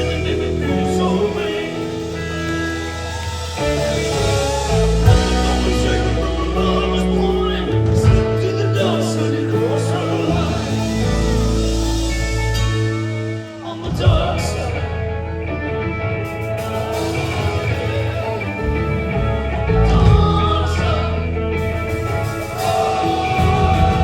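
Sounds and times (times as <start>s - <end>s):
person singing: 0.0s - 15.1s, 16.5s - 24.0s
rock band playing: 0.0s - 24.0s.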